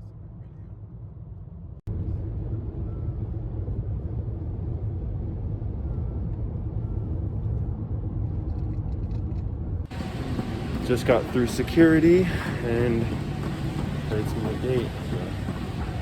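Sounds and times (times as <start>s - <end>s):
vehicle rumble heard from inside: 1.4s - 16.0s.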